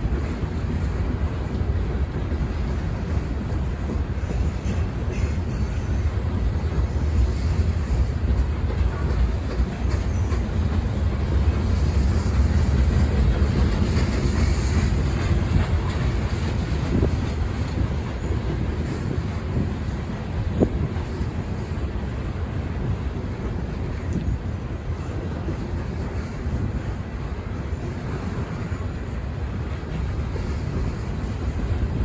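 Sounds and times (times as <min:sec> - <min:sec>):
freight train cars rumbling: 0:00.0 - 0:32.0.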